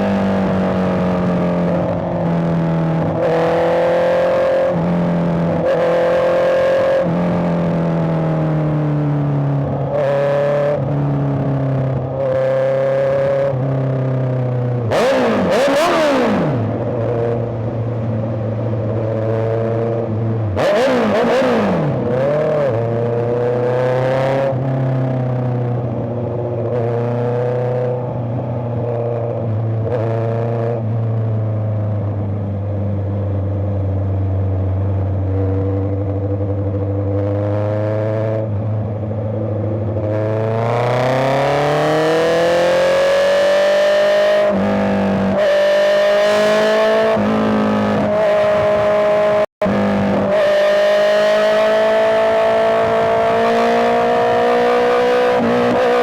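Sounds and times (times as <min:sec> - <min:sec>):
motorcycle engine revving: 0:00.0 - 0:18.0, 0:18.8 - 0:31.3, 0:34.9 - 0:56.0.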